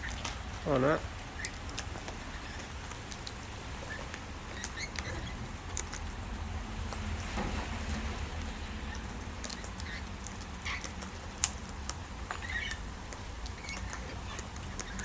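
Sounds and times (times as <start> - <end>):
birds chirping softly: 0.0 - 15.0.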